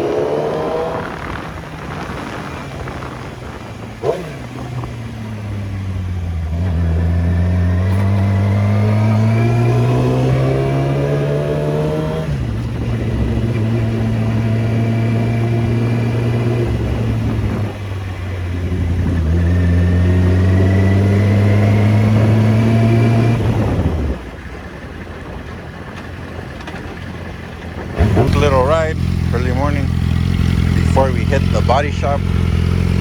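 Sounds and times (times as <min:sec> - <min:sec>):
car engine revving through gears: 0:00.0 - 0:24.2, 0:27.8 - 0:33.0.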